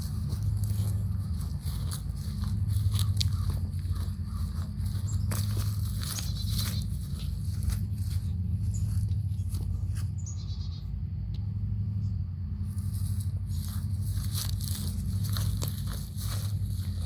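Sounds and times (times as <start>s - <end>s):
footsteps on trail: 0.0s - 10.8s, 12.6s - 17.0s
steady low rumble: 0.0s - 17.0s.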